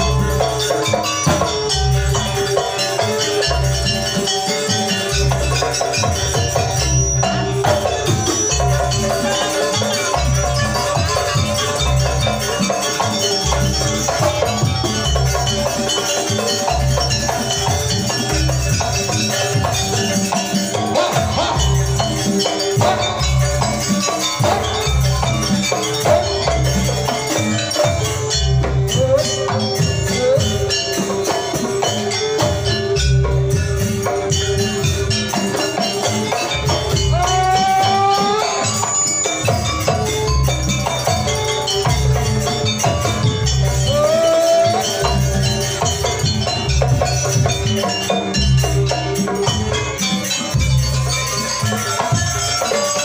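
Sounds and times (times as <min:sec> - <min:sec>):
gamelan ensemble playing: 0:00.0 - 0:53.0
hand drums beating: 0:00.0 - 0:53.0.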